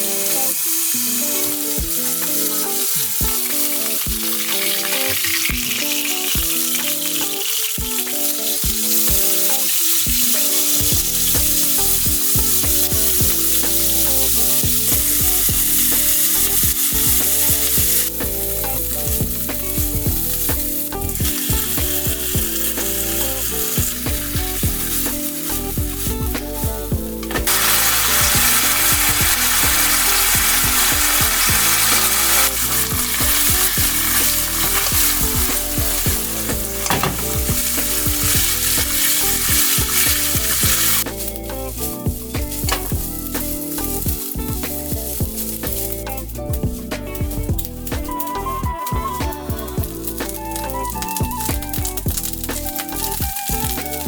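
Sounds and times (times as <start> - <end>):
food sizzling in frying pan: 0.0 - 54.0.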